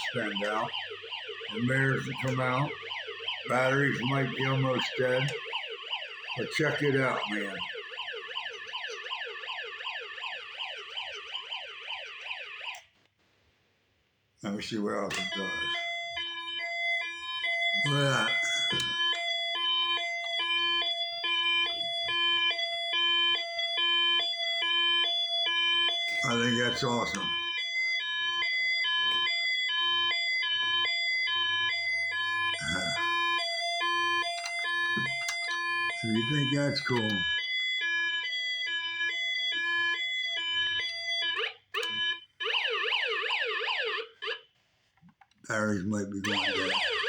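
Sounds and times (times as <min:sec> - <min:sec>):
toy fire truck siren wailing: 0:00.0 - 0:12.8, 0:14.5 - 0:44.6, 0:46.2 - 0:47.0.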